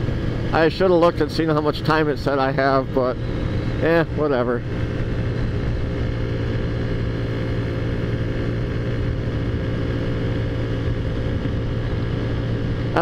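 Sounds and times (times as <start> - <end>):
scooter engine cruising: 0.0 - 13.0.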